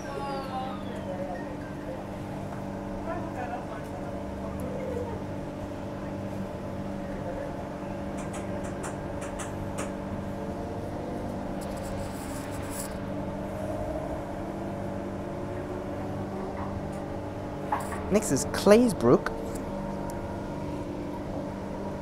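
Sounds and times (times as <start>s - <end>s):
electric traction hum: 0.0s - 22.0s
wheels rumbling on rail: 0.0s - 22.0s.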